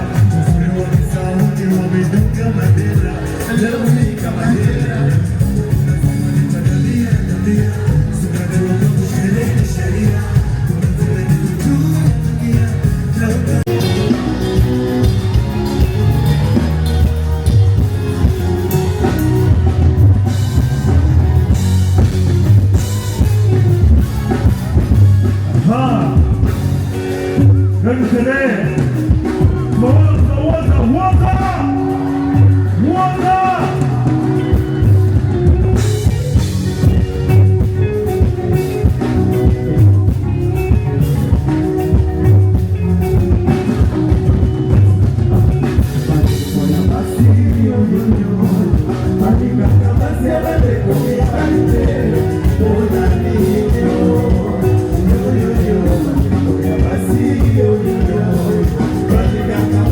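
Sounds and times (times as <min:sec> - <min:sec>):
live band music: 0:00.0 - 0:59.9
person singing: 0:00.0 - 0:59.9.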